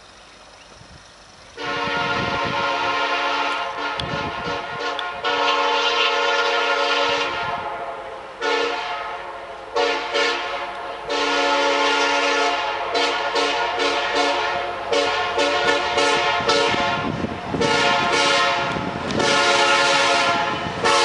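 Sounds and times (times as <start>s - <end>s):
locomotive air horn blasts: 1.6s - 21.0s.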